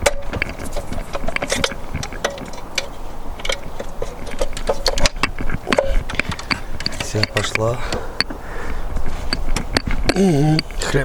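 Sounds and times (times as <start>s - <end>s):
small metallic clicks and knocks: 0.0s - 8.4s, 9.3s - 10.9s.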